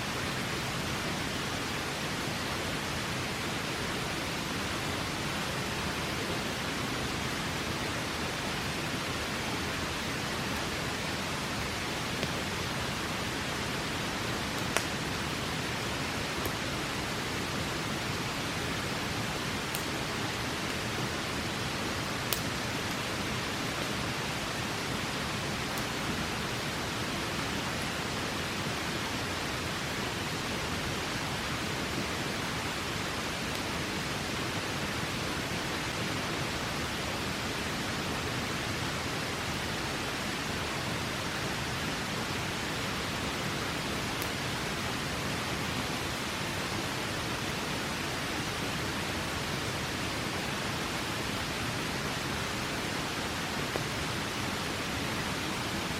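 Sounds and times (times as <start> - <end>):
river water rushing: 0.0 - 55.9
campfire crackling: 0.2 - 55.9.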